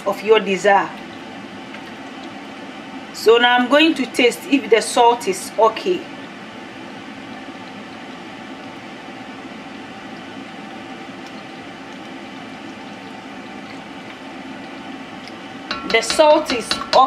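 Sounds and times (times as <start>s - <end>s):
faint steady hum: 0.0s - 17.0s
stew simmering in a pot: 0.1s - 17.0s.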